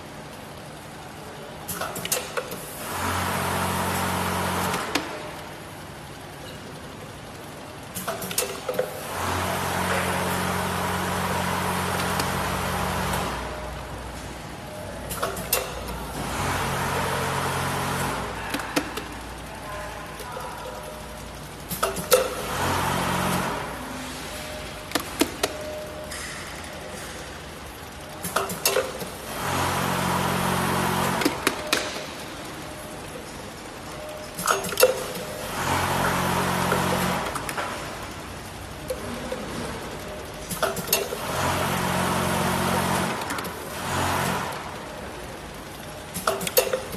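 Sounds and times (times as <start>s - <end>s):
machine hum with rattling hiss: 0.0s - 46.9s.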